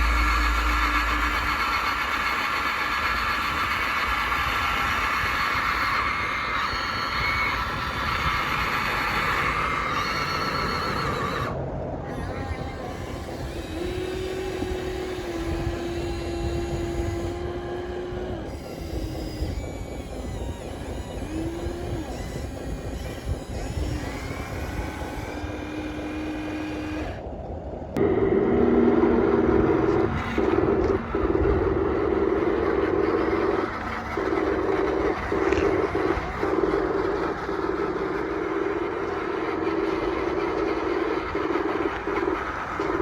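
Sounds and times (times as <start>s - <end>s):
toy electric motors whining: 0.0s - 27.4s, 28.1s - 43.0s
loud steady motor whine: 0.0s - 43.0s.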